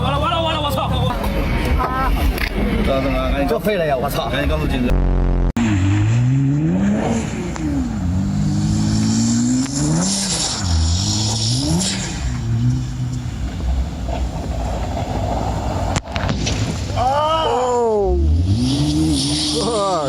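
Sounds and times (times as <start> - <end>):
car engine revving: 0.0 - 17.0, 17.6 - 20.0.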